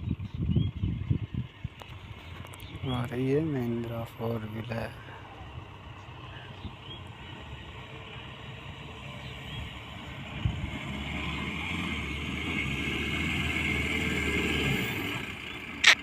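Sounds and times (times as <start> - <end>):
vehicle engine under load: 0.0 - 16.0.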